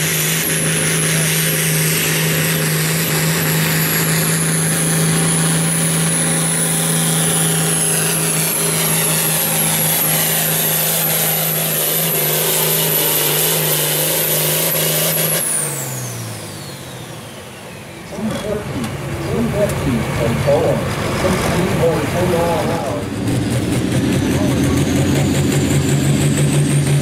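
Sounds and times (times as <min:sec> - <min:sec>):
diesel tractor engine under load: 0:00.0 - 0:27.0.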